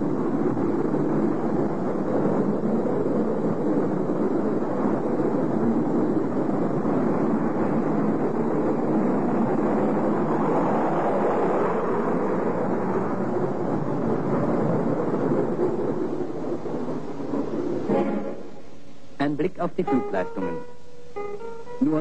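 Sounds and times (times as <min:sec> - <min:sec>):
jet airliner taking off: 0:00.0 - 0:20.9.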